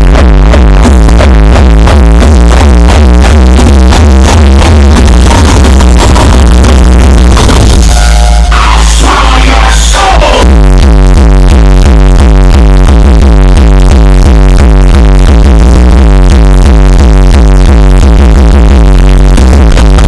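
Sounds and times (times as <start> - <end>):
electronic dance music: 0.0 - 20.0.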